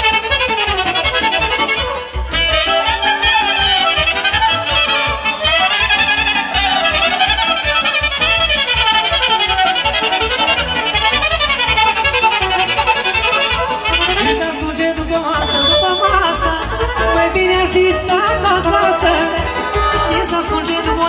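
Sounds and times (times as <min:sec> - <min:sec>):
band playing dance music: 0:00.0 - 0:21.0
saxophones: 0:00.0 - 0:21.0
violin melody: 0:00.0 - 0:21.0.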